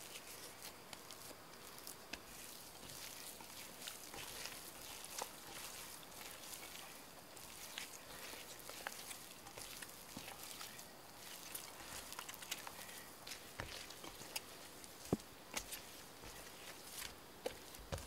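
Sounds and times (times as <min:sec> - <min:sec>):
dough squishing: 0:00.0 - 0:18.0.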